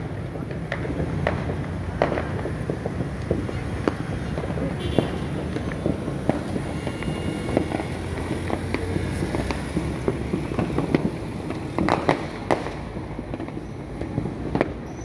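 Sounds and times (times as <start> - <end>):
firecrackers popping and cracking: 0.0 - 15.0.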